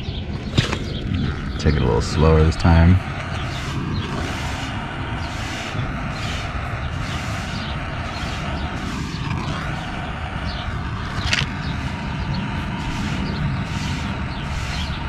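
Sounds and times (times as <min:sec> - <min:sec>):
heat torch burning: 0:00.3 - 0:15.0.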